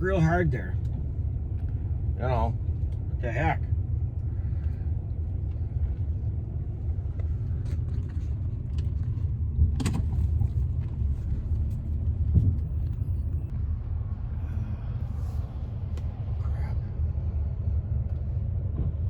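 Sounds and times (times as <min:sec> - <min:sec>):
car cabin rumble: 0:00.0 - 0:19.0.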